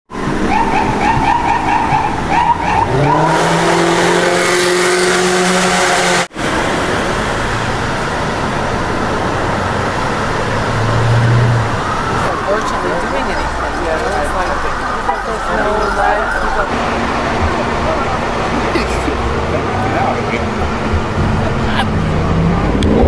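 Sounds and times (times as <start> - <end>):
traffic noise: 0.1 - 23.0.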